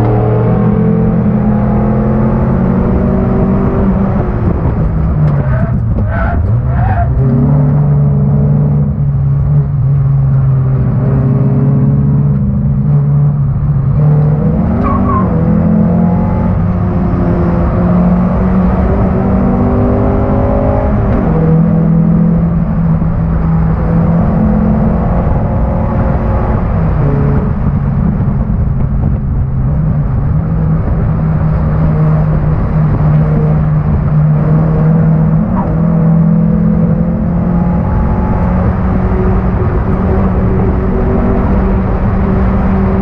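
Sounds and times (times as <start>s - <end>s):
car engine running hard: 0.0s - 43.0s.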